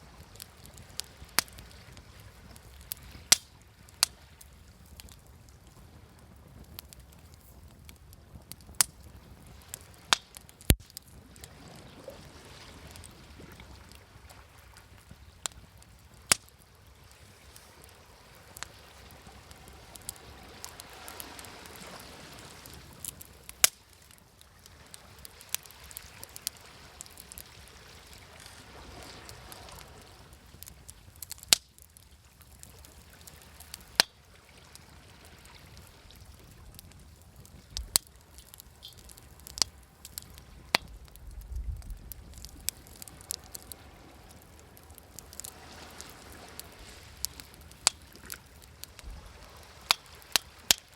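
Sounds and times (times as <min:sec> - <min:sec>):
wood fire crackling: 0:00.0 - 0:50.9
waves washing: 0:09.1 - 0:41.1, 0:41.9 - 0:50.9.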